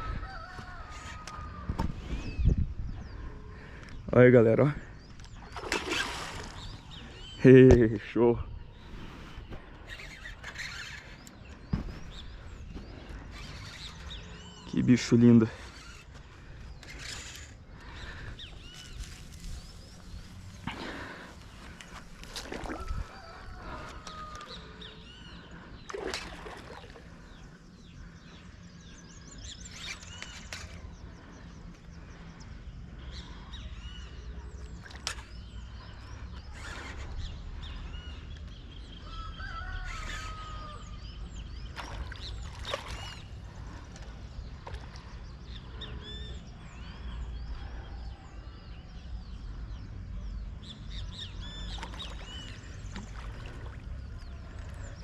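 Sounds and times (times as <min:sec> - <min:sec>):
bird calls and chirps: 0:00.0 - 0:55.0.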